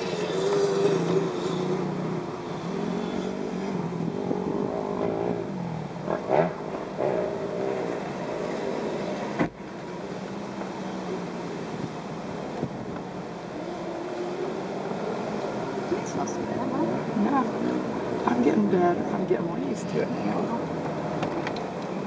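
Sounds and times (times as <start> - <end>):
off-road vehicle engine: 0.0 - 22.0.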